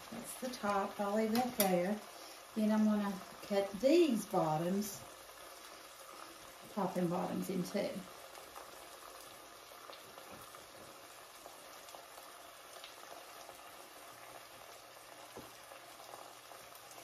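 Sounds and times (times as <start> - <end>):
onions sizzling in skillet: 0.0 - 17.0.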